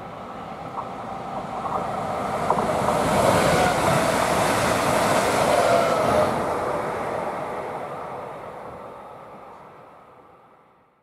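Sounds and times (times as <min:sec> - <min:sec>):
train wheels rushing on rail: 0:00.0 - 0:10.3
faint train whine: 0:00.0 - 0:11.0.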